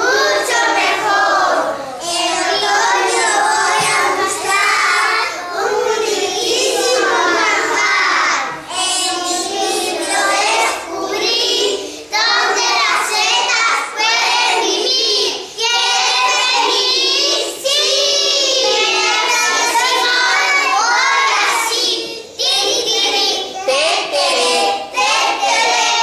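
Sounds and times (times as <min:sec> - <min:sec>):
young children singing: 0:00.0 - 0:26.0.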